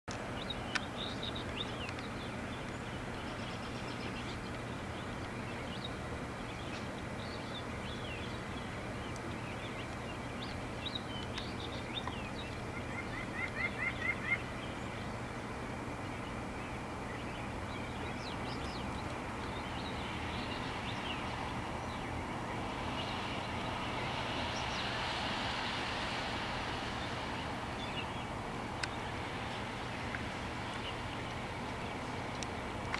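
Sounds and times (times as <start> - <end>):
small songbirds chirping: 0.1 - 32.9
steady background hiss: 0.1 - 32.9.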